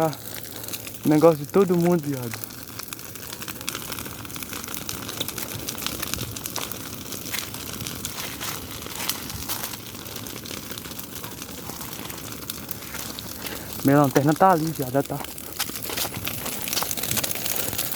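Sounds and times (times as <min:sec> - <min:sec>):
fire crackling and popping: 0:00.0 - 0:17.9
rush of flame: 0:00.0 - 0:17.9.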